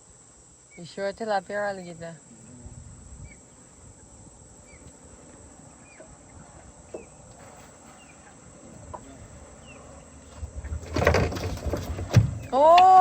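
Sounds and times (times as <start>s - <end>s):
high-pitched insect buzz: 0.0s - 10.6s
birds chirping: 0.0s - 13.0s.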